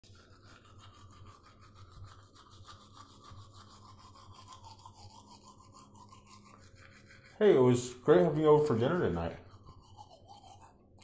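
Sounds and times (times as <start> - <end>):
toothbrush scrubbing teeth: 0.0 - 11.0.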